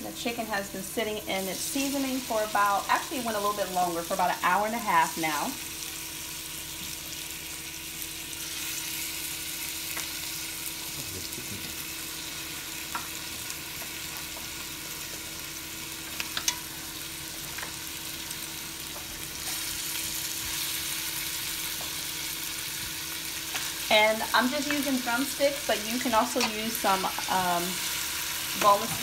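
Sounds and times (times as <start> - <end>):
chicken sizzling in hot oil: 1.1 - 29.0.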